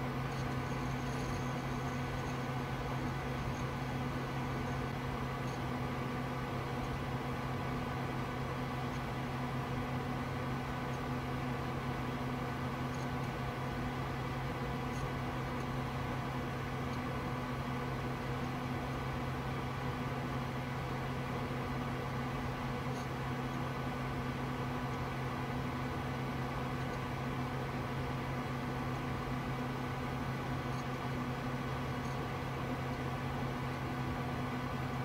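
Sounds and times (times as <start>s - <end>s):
desktop computer fans humming: 0.0s - 35.0s.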